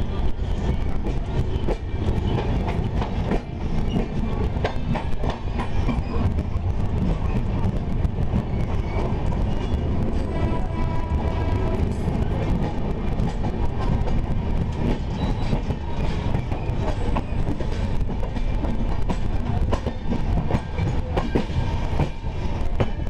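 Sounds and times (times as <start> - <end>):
train rumbling on track: 0.0 - 23.0.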